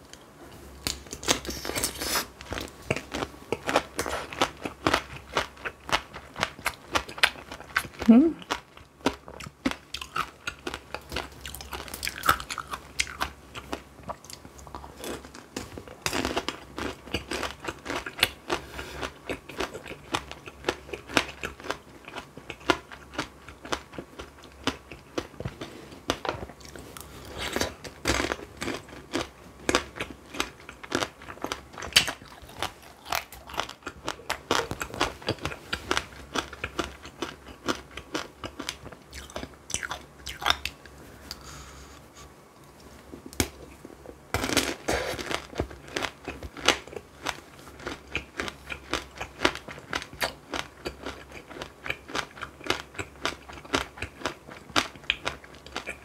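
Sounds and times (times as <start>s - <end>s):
crunching candied fruit: 0.8s - 25.4s, 26.1s - 41.4s, 43.4s - 56.0s.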